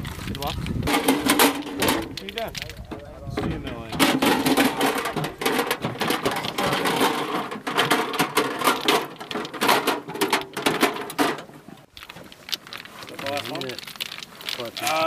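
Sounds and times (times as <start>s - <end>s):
metal ammunition rattling: 0.3s - 15.0s.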